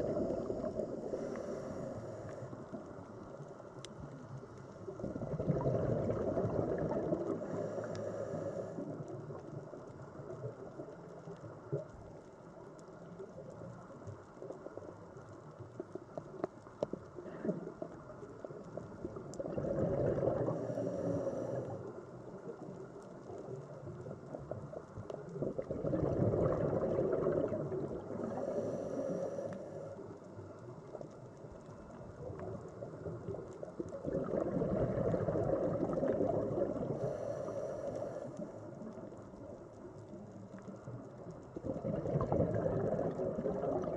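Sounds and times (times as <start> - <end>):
sea water gurgling and washing: 0.0 - 43.9.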